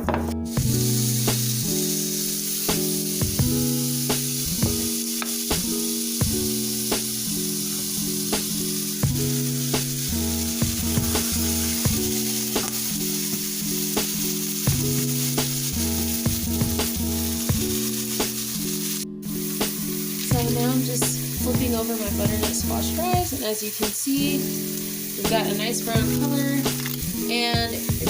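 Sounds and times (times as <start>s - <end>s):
background music with bass: 0.0s - 23.4s
food sizzling in a frying pan: 0.3s - 28.0s.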